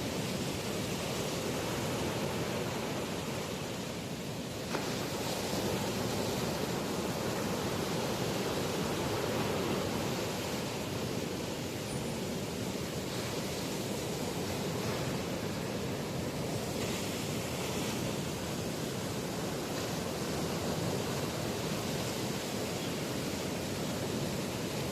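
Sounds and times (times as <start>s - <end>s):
waves breaking: 0.0s - 24.9s.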